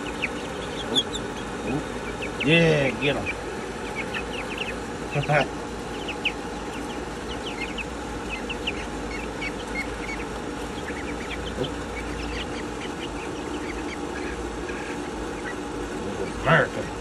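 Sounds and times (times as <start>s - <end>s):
chickens cheeping and clucking: 0.0s - 17.0s
steady low hum: 0.0s - 17.0s.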